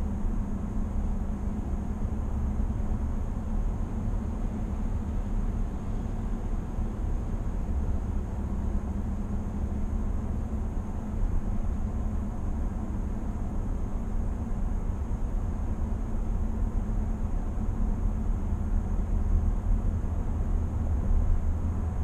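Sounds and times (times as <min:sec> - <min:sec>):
road and tyre rumble in car cabin: 0:00.0 - 0:22.0.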